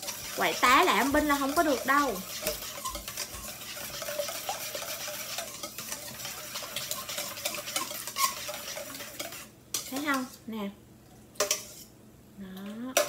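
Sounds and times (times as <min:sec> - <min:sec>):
whisk beating eggs in metal bowl: 0:00.0 - 0:10.4, 0:11.4 - 0:11.9.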